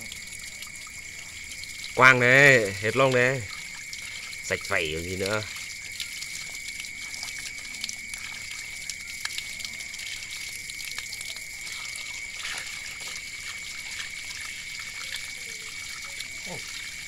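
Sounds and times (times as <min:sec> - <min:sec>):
running water pouring and splashing: 0:00.0 - 0:17.0
small splashes and ticks: 0:00.0 - 0:17.0
water splashing on stone floor: 0:00.0 - 0:17.0.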